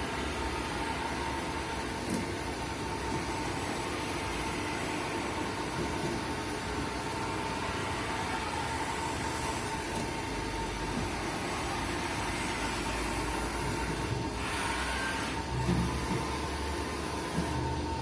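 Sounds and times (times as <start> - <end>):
high machine whine: 0.0 - 18.0
machining centre humming: 0.0 - 18.0.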